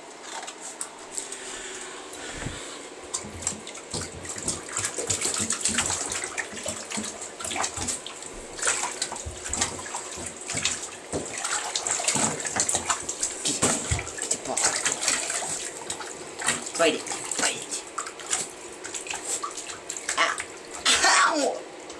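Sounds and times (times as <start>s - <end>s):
bathtub water splashing: 0.0s - 21.9s.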